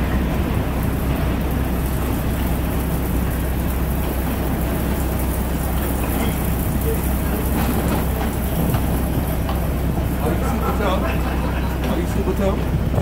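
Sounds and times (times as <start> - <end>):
trains and traffic rumble: 0.0 - 13.0.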